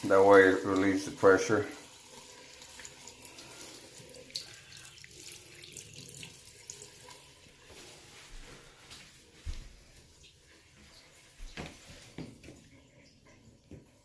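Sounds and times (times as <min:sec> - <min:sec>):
faint running water: 0:00.0 - 0:14.0.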